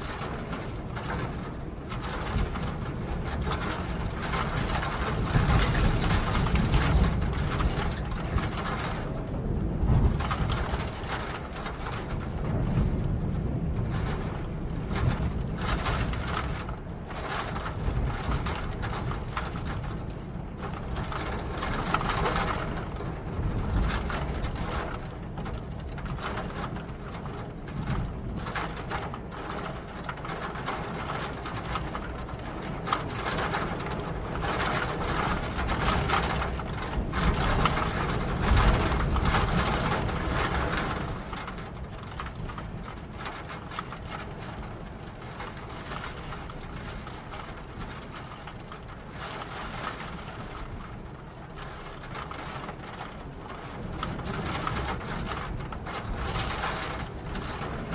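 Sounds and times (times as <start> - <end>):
rain falling: 0.0 - 57.9.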